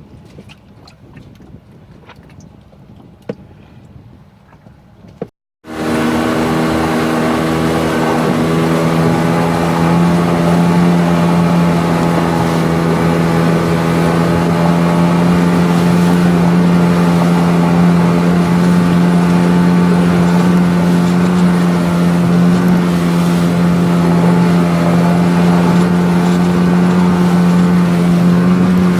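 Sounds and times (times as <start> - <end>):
outboard motor running: 5.6 - 28.9.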